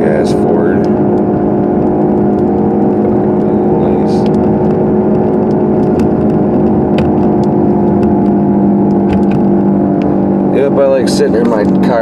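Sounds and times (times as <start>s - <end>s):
car idling with heater fan hum: 0.0s - 12.0s.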